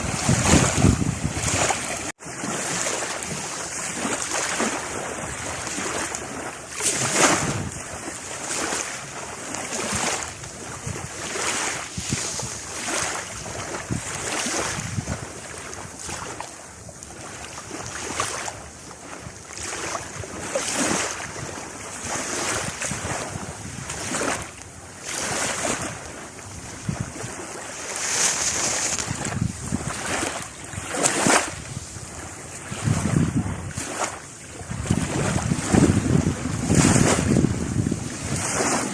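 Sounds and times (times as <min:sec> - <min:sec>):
sea waves washing in: 0:00.0 - 0:38.9
wind buffeting microphone: 0:00.0 - 0:38.9.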